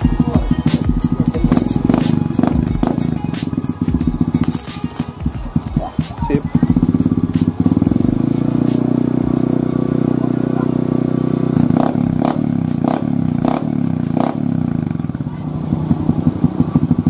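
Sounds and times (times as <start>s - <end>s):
motorcycle exhaust note: 0.0s - 17.0s
sharp exhaust cracks: 0.0s - 17.0s.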